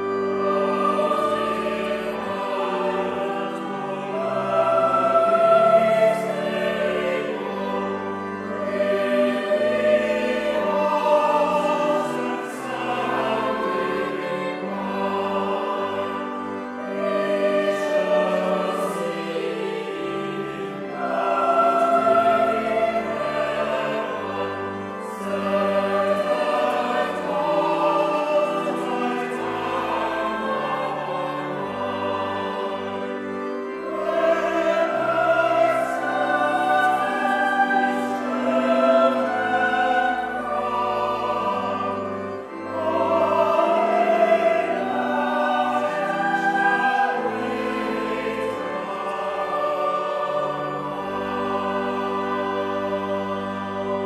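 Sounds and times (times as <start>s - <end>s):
choir singing a carol: 0.0s - 54.0s.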